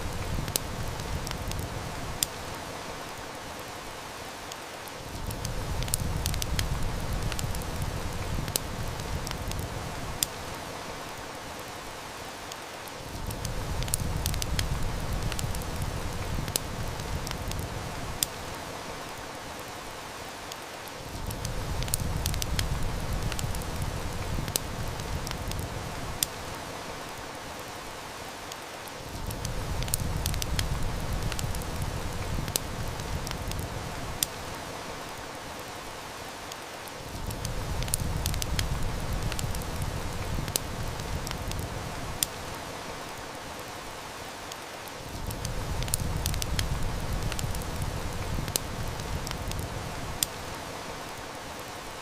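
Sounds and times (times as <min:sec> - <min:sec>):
faint wood-fire snap: 0:00.0 - 0:03.7, 0:04.4 - 0:11.7, 0:12.4 - 0:27.4, 0:28.4 - 0:52.0
heavy rain hissing: 0:00.0 - 0:52.0.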